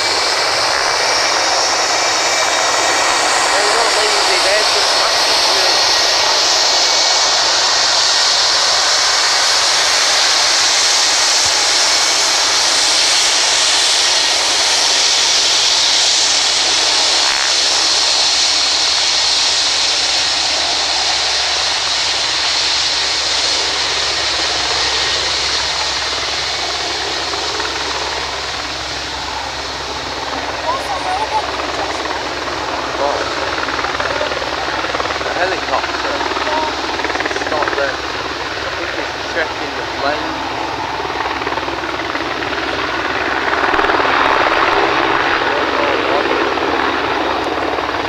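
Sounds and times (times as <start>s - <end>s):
helicopter turbine and rotor: 0.0s - 48.0s
jet engines rushing and whining: 0.0s - 48.0s.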